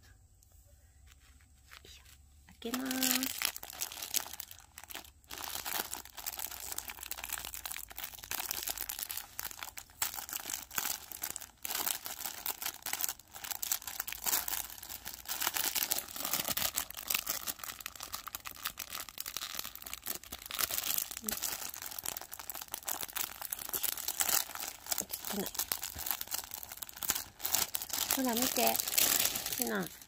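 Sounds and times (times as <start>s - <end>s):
packaging crinkling and rustling: 1.1s - 30.0s.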